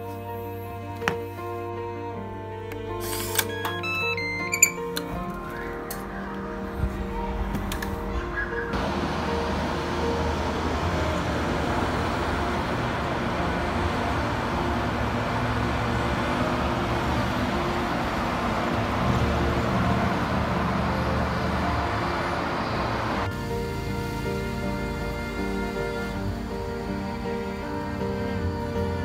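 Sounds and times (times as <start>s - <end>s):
cars and buses passing: 2.2s - 29.0s.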